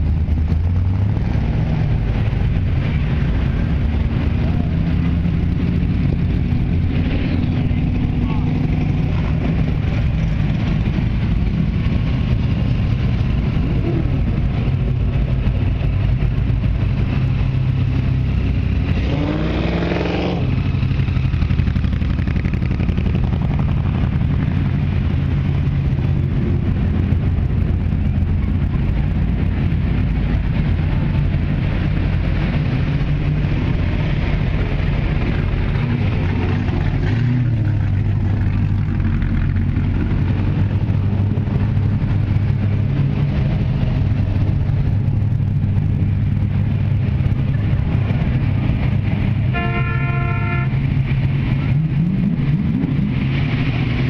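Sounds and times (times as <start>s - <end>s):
cars driving slowly past: 0.0s - 54.0s
engine revving: 0.0s - 54.0s.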